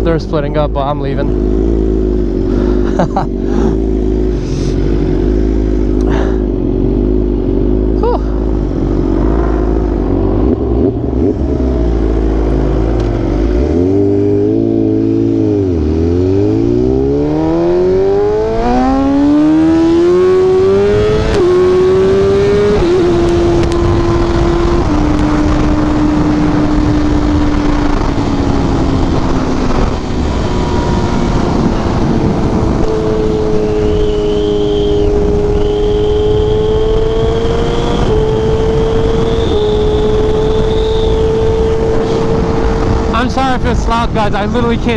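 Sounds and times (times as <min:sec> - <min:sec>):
motorcycle engine accelerating: 0:00.0 - 0:44.9
wind noise: 0:08.6 - 0:44.9.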